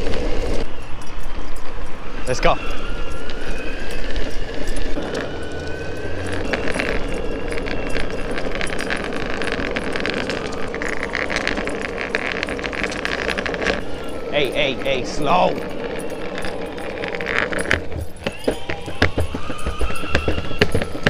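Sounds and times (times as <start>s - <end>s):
dog harness jangling: 0.0s - 21.0s
electric skateboard rolling: 0.0s - 21.0s.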